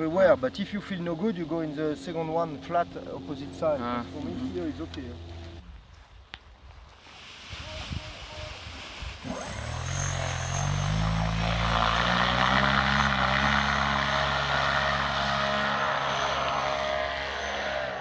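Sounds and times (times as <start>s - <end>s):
paramotor engine and propeller: 0.0s - 5.7s, 9.1s - 18.0s.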